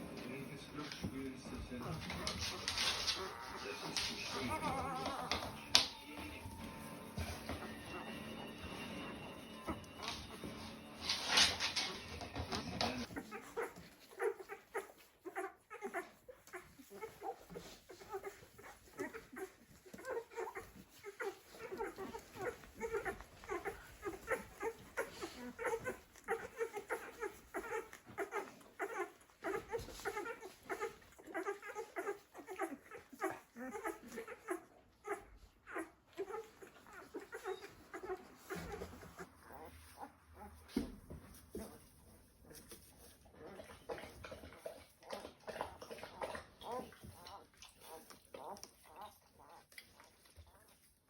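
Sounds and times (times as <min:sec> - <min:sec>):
puppies squeaking and whimpering: 0:00.0 - 0:51.0.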